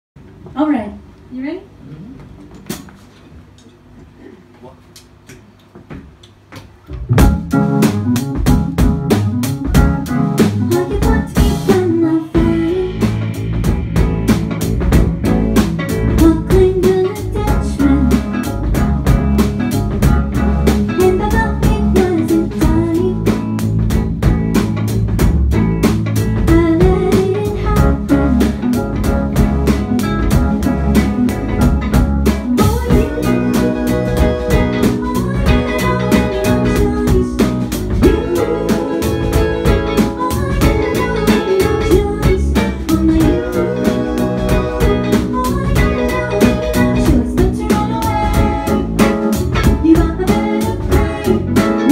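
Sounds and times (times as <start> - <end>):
bass: 0.1 - 51.9
drum kit beat: 6.0 - 51.9
keyboards: 6.0 - 51.9
electric guitar: 6.9 - 51.9.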